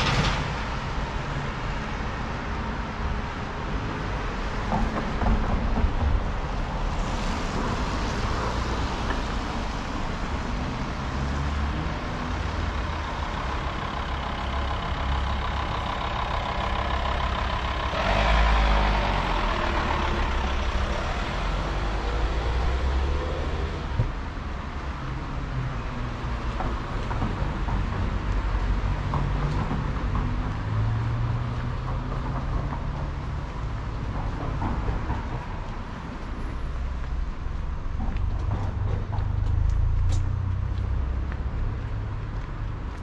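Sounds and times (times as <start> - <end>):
cars driving past: 0.0 - 43.0.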